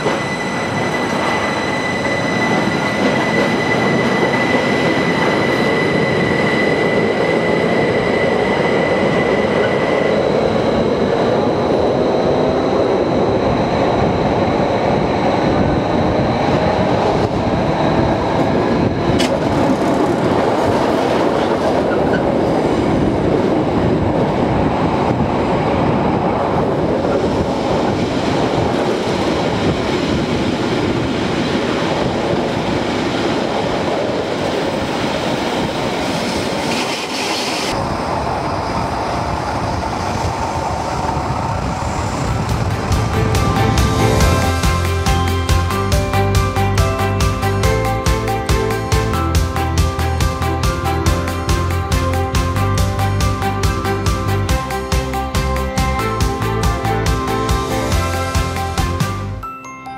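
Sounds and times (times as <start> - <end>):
high whine: 0.0 - 31.2, 37.7 - 59.4
train wheels rumbling on rails: 0.0 - 59.4.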